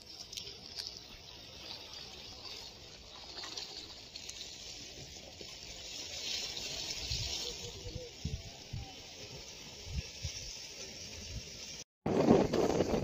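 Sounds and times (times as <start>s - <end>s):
sea water splashing against rocks: 0.0s - 13.0s.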